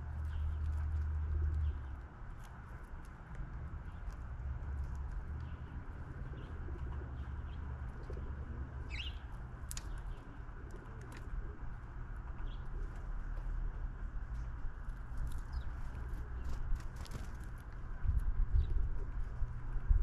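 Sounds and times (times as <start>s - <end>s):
birds chirping: 0.0s - 17.6s
steady low rumble: 0.0s - 20.0s.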